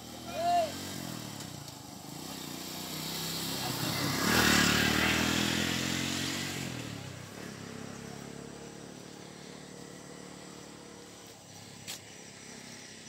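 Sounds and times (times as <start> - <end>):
low outdoor background: 0.0 - 13.0
vehicle engine passing: 0.0 - 13.0.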